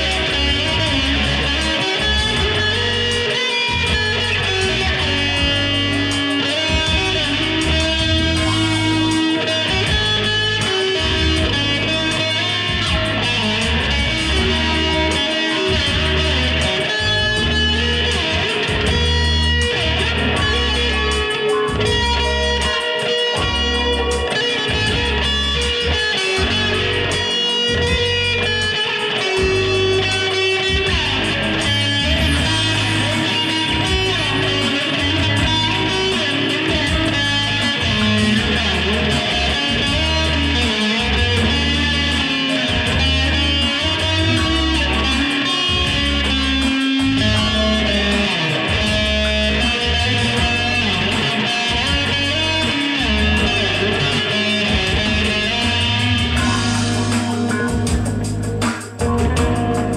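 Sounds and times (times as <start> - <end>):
backing track with bass line: 0.0 - 59.9
electric guitar through amplifier: 0.0 - 59.9.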